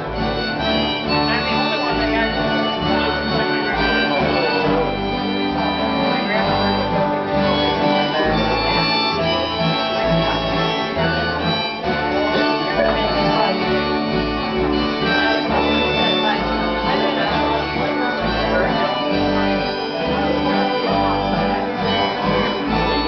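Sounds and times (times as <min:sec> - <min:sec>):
harmonica playing: 0:00.0 - 0:23.0
plucked upright bass: 0:00.0 - 0:23.0
strummed acoustic guitars: 0:00.0 - 0:23.0.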